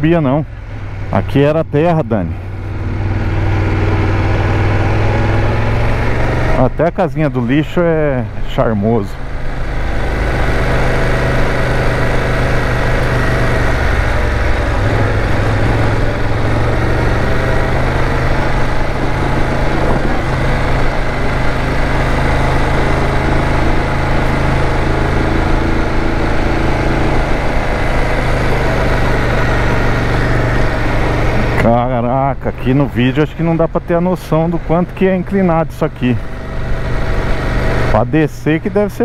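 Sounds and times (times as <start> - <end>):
motorcycle engine under load: 0.0 - 39.0.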